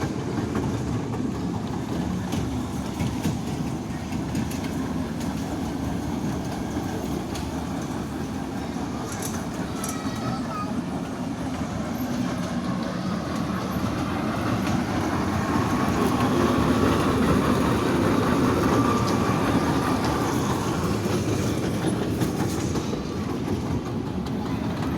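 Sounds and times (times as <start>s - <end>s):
toy train rumbling on rails: 0.0s - 24.9s.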